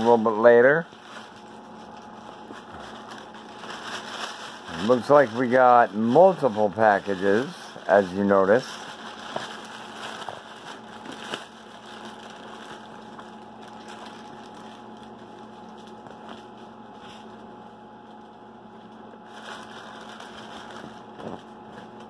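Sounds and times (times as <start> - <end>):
low background hum: 0.0 - 22.0
plastic packaging crinkling: 0.0 - 22.0.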